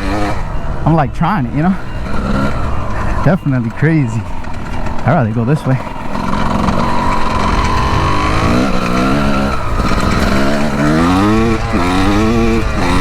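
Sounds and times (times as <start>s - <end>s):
dirt bike engine accelerating: 0.0s - 13.0s.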